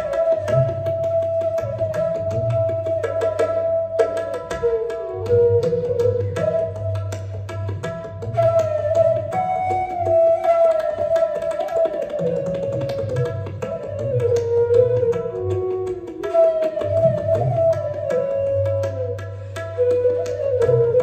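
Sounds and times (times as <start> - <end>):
bamboo flute melody: 0.0 - 21.0
tabla drums: 0.0 - 21.0.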